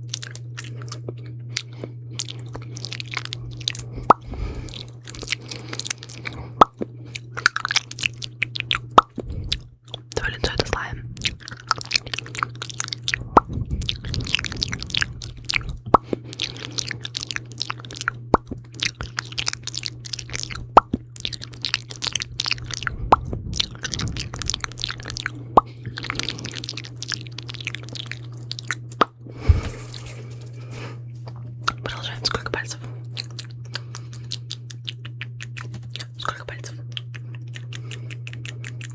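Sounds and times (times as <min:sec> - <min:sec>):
wet mouth clicks and smacks: 0:00.0 - 0:29.2, 0:31.6 - 0:38.9
steady low hum: 0:00.0 - 0:38.9.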